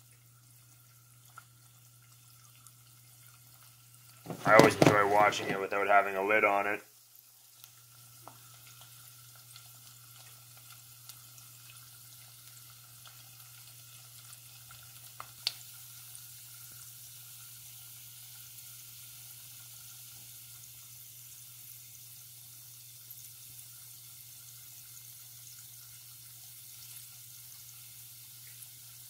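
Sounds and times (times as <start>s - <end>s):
oil sizzling faintly in pot: 0.0s - 29.0s.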